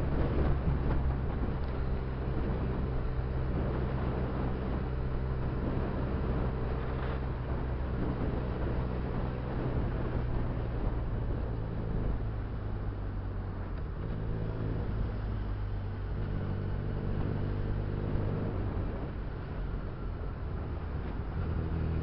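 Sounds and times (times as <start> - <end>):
motorcycle engine cruising: 0.0 - 22.0
wind rushing over microphone: 0.0 - 22.0.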